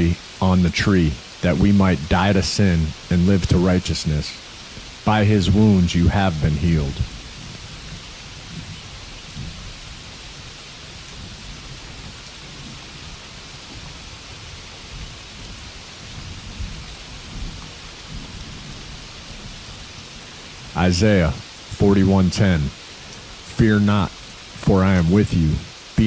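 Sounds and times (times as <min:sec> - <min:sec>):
low rumbling: 0:00.0 - 0:25.8
rain falling: 0:00.0 - 0:26.0.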